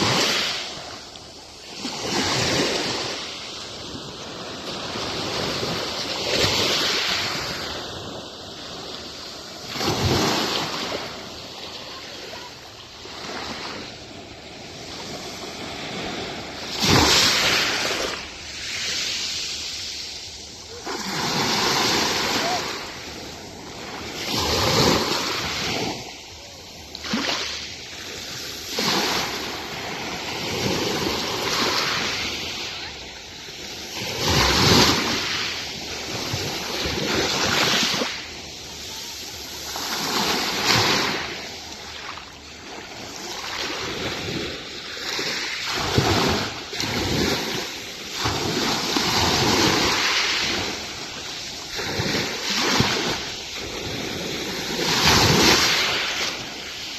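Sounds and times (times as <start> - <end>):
sea waves breaking on beach: 0.0 - 56.9.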